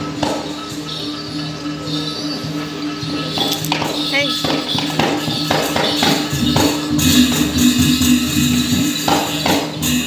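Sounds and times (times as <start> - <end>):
gamelan ringing metal tones: 0.0 - 10.0
jangling cymbals: 0.0 - 10.0.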